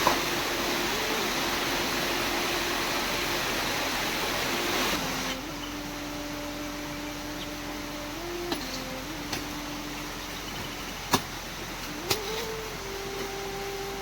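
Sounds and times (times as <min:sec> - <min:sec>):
faint steady hum: 0:00.0 - 0:14.0
heavy rain: 0:00.0 - 0:14.0.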